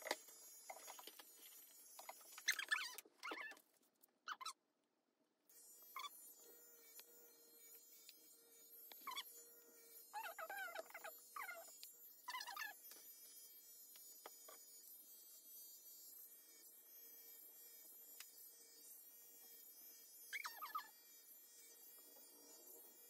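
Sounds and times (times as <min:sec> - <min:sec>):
electric pet clipper humming: 0:00.0 - 0:03.5, 0:05.5 - 0:23.0.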